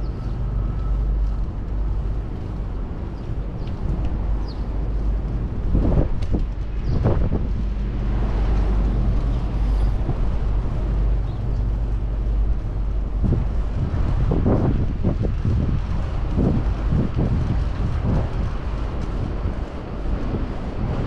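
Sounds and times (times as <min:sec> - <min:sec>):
motor traffic: 0:00.0 - 0:21.0
wind rumbling on microphone: 0:00.0 - 0:21.0.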